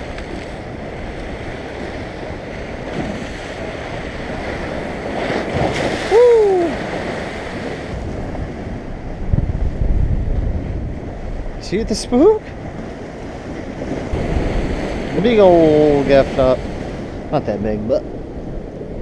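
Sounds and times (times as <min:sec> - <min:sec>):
waves lapping: 0:00.0 - 0:09.8, 0:10.4 - 0:19.0
wind buffeting microphone: 0:00.0 - 0:19.0.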